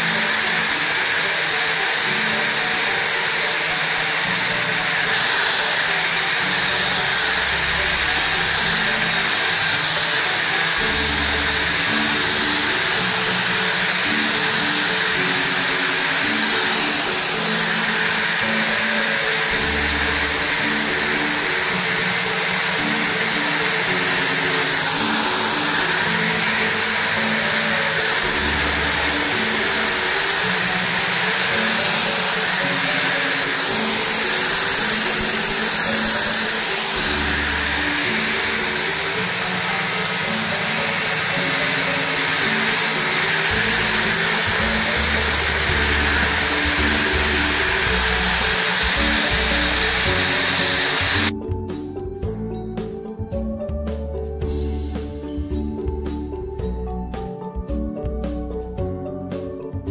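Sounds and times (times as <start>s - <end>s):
disc grinding rust off steel: 0.0s - 51.3s
angle grinder whining: 0.0s - 53.5s.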